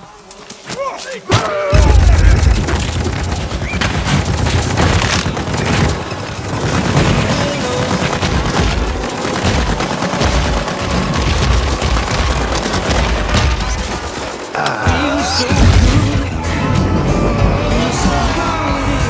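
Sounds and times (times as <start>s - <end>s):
rapid bangs: 1.1s - 19.0s
loud booms: 1.7s - 14.2s, 14.9s - 19.0s
action film music: 1.8s - 19.0s.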